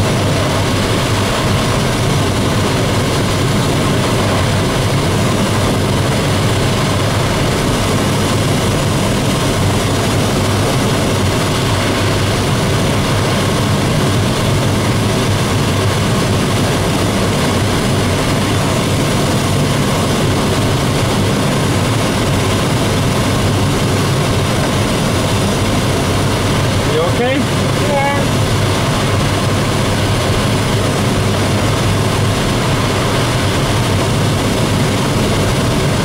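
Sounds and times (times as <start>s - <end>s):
air rushing around canopy: 0.0s - 36.0s
propeller engine drone: 0.0s - 36.0s.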